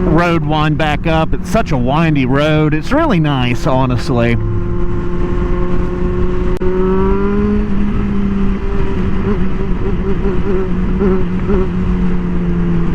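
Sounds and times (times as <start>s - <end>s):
wind rumble: 0.0s - 12.3s
motorcycle engine cruising: 0.0s - 12.9s.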